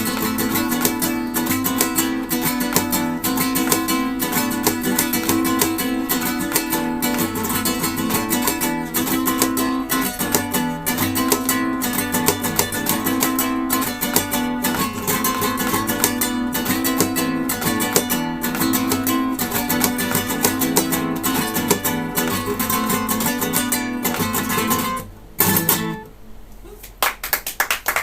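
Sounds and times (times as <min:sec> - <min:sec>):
acoustic guitar flamenco-like playing: 0:00.0 - 0:26.2.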